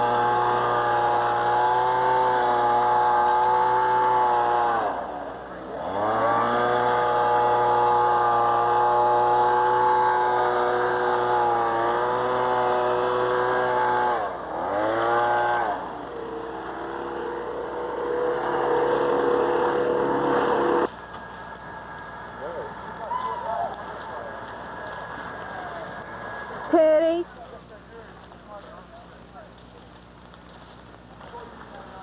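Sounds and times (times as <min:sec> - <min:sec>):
small engine revving: 0:00.0 - 0:27.2.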